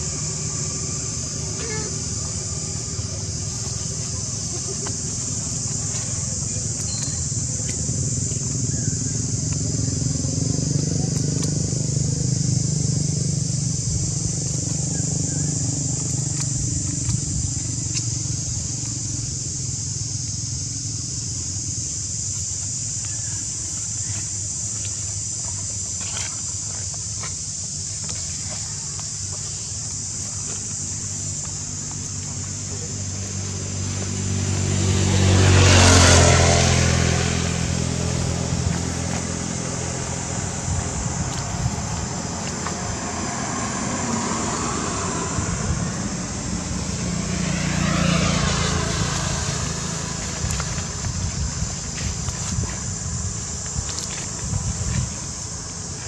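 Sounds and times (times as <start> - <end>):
constant high hiss: 0.0 - 56.0
engine running: 0.0 - 56.0
road noise rush: 0.0 - 56.0.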